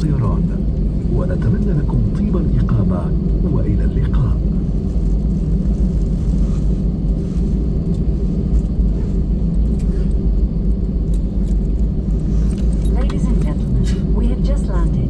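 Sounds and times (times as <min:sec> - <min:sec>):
aircraft engines idling: 0:00.0 - 0:15.0.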